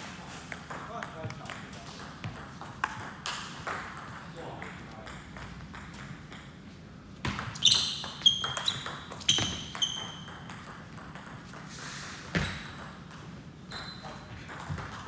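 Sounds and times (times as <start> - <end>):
table tennis ball pinging: 0.5 - 6.6, 7.2 - 15.0.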